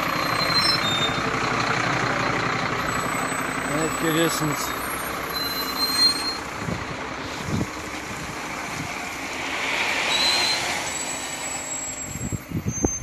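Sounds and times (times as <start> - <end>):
diesel truck engine: 0.0 - 13.0.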